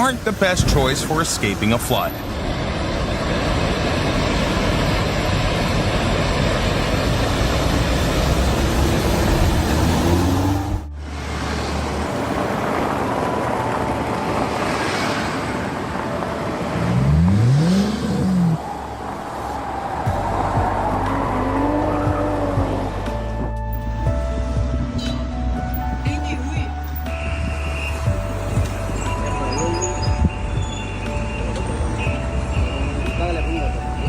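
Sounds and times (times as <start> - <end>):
car engine: 0.0 - 34.0
road noise: 0.0 - 34.0.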